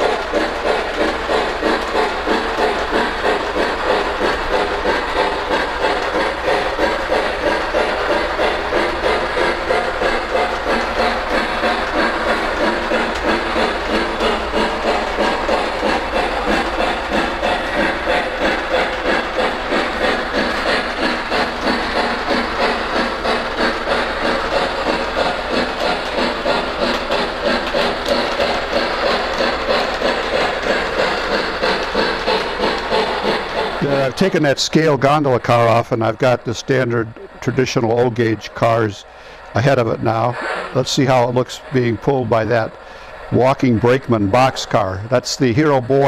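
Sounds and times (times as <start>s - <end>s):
toy train running on track: 0.0s - 46.0s
toy train steam chuff sound: 0.0s - 46.0s.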